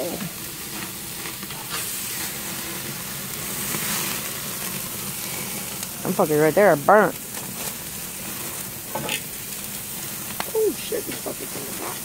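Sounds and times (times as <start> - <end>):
faint fat crackles: 0.0 - 12.0
meat sizzling on grill: 0.0 - 12.0.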